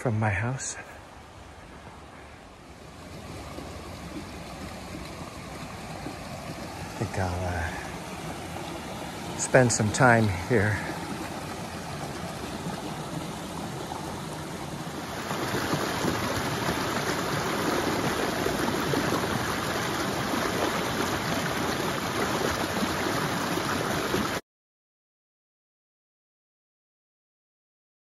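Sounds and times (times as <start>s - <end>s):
creek flowing over rocks: 0.0s - 24.4s.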